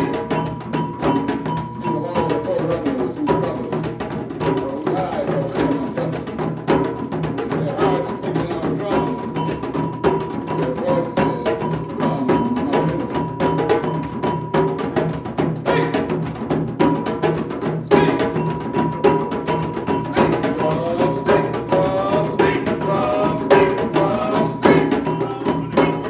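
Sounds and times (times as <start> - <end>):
fast drumming: 0.0 - 26.0.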